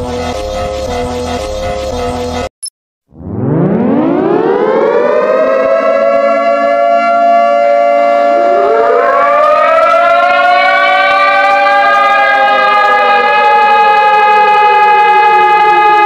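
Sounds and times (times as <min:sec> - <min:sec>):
second siren tone: 0:03.1 - 0:16.0
siren wailing: 0:03.1 - 0:16.0.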